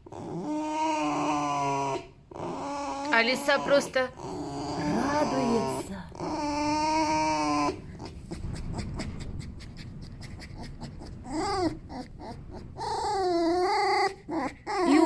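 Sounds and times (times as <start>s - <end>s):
fox squeaking and whining: 0.0s - 15.0s.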